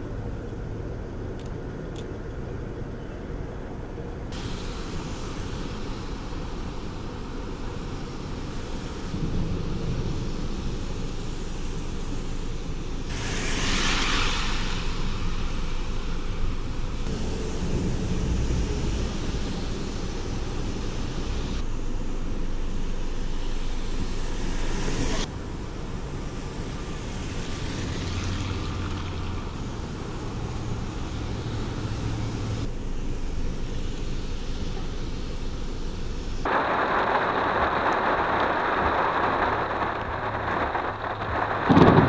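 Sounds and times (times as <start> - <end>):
traffic rumble: 0.0 - 42.0
loud rushing hiss: 4.3 - 42.0.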